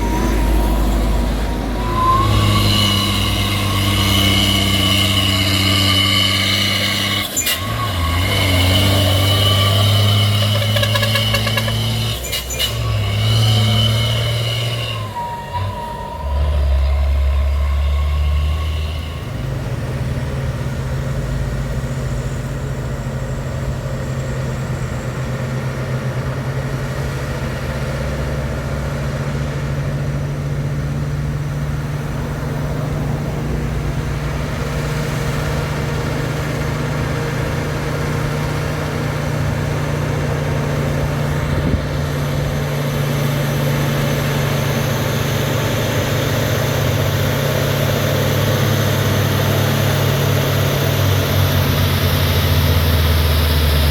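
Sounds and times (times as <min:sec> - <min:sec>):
truck diesel engine running: 0:00.0 - 0:53.9.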